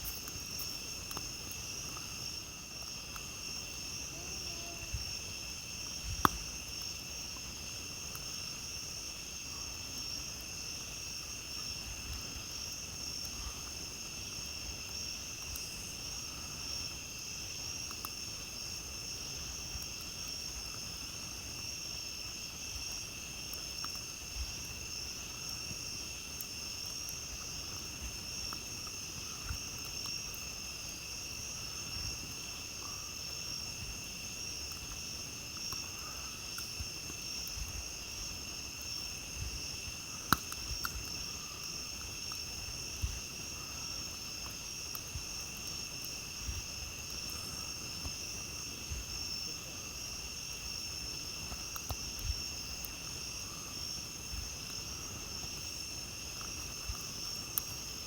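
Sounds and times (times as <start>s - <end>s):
campfire popping: 0.0s - 58.0s
night insects trilling: 0.0s - 58.0s.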